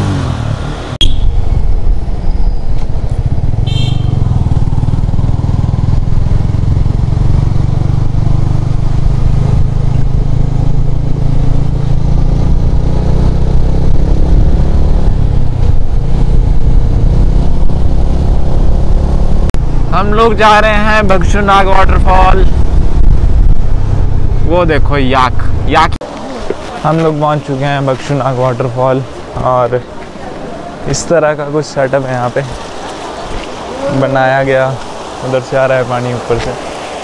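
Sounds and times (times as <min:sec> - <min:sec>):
motorcycle engine rumble: 0:00.0 - 0:35.2.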